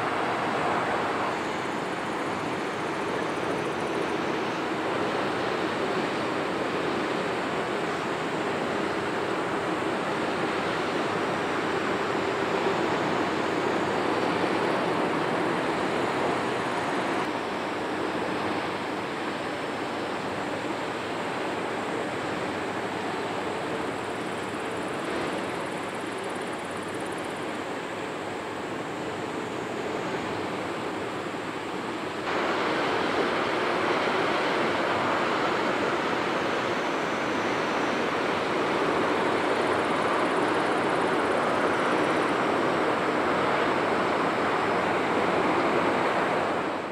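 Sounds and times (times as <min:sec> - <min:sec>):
water rushing: 0:00.0 - 0:25.8, 0:29.8 - 0:46.9.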